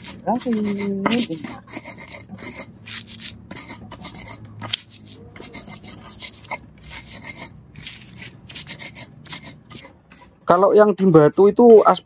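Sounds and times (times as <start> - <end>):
stone pestle grinding in mortar: 0.0 - 10.6.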